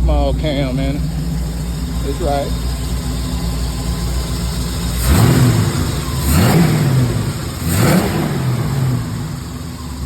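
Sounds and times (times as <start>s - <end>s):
engine idling and revving: 0.0s - 10.0s.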